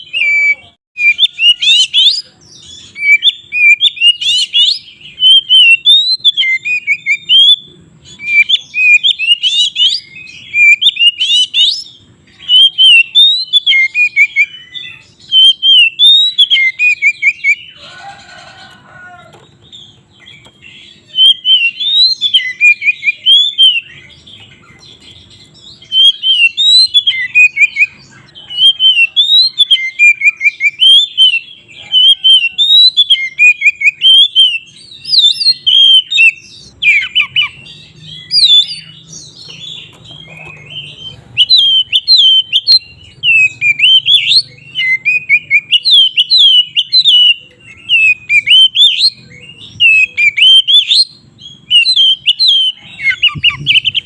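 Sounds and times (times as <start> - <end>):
bird singing whistled notes: 0.0 - 17.8, 19.7 - 54.0.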